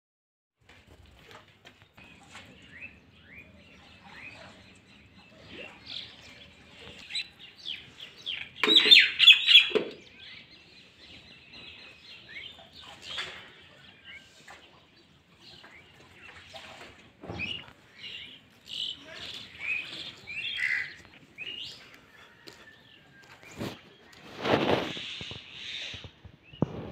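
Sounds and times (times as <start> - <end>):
birds chirping and twittering: 0.7 - 26.9.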